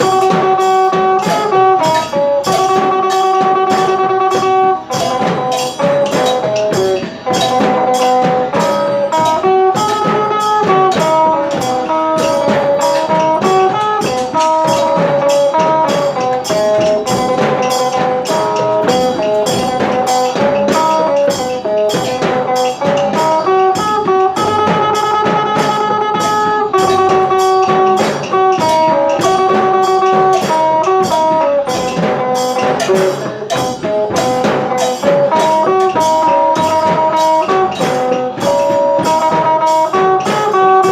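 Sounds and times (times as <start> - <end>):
steady drum beat: 0.0 - 40.9.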